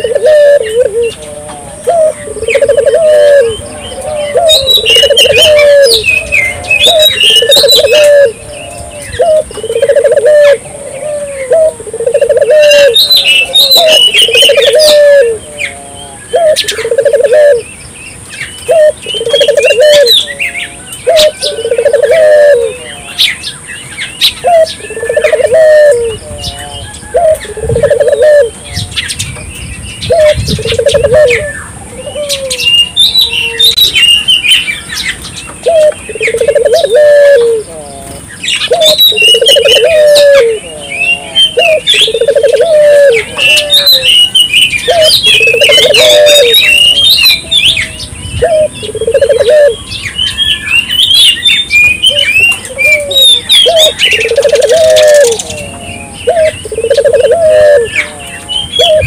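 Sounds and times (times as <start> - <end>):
doves cooing: 0.0 - 59.0
small birds chirping: 0.0 - 59.0
steady high-pitched whine: 0.0 - 59.0.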